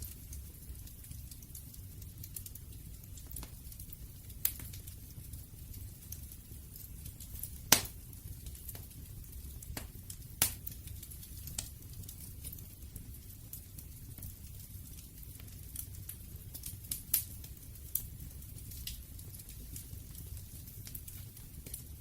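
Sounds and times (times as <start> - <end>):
low rumble of burning: 0.0 - 22.0
wood fire popping and snapping: 0.0 - 22.0.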